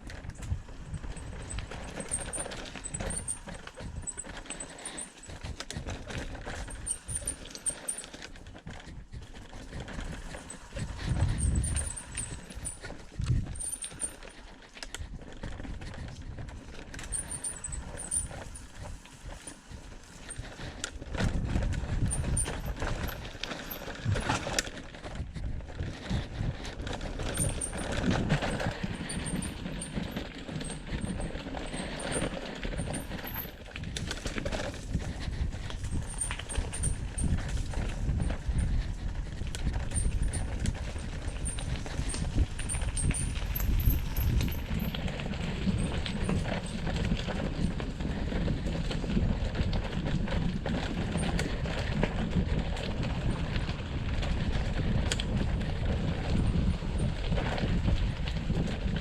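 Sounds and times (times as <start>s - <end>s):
footsteps on forest trail: 0.1s - 52.0s.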